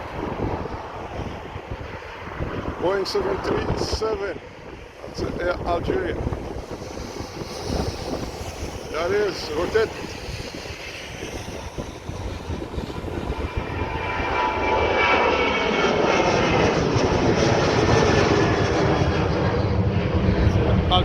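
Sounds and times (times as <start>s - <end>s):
jet engines roaring at takeoff: 0.0s - 21.0s.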